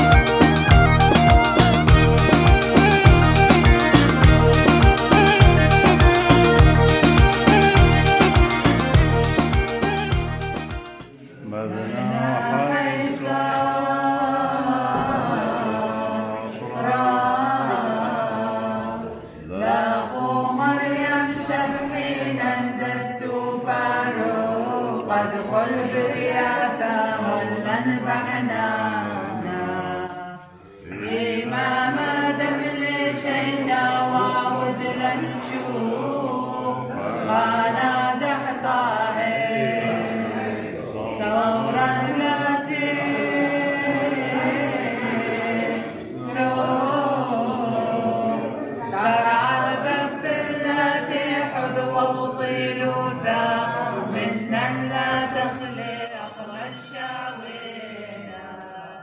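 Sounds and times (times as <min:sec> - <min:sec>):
group singing without instruments: 0:00.0 - 0:59.0.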